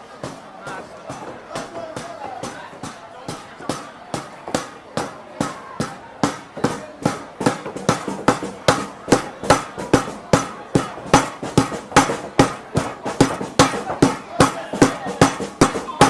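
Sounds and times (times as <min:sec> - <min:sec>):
heavy pounding strikes with ring: 0:00.2 - 0:16.0.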